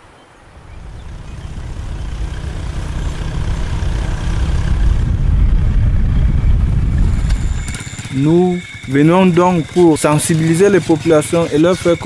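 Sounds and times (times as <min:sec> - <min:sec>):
motorcycle engine rumble: 0:00.5 - 0:12.0.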